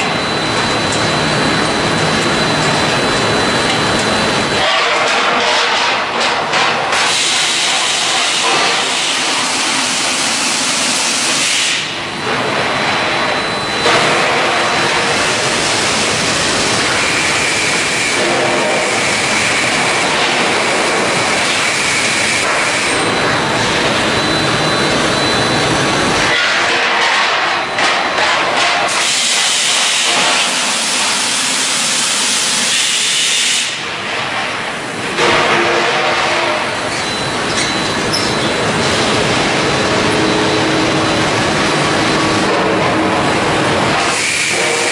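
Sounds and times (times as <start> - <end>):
machinery noise: 0.0 - 44.9.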